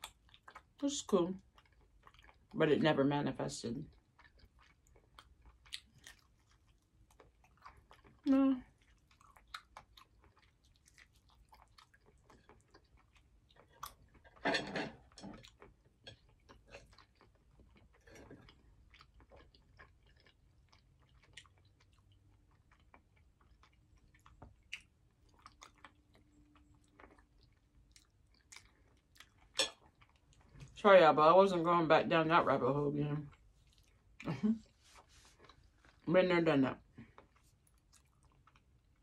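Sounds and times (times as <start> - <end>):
person chewing food: 0.0 - 0.8, 1.4 - 2.6, 3.8 - 30.8, 33.2 - 36.1, 37.0 - 39.0.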